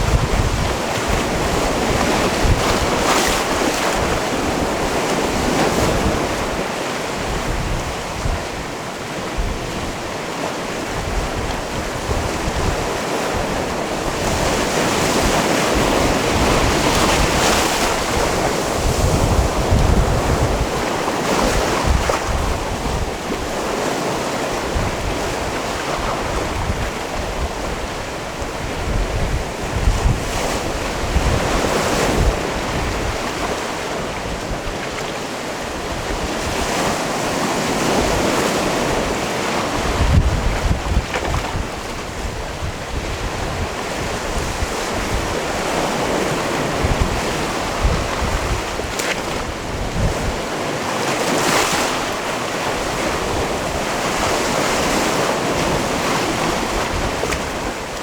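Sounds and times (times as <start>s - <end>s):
sea waves washing against rocks: 0.0s - 58.0s
wind buffeting microphone: 0.0s - 58.0s.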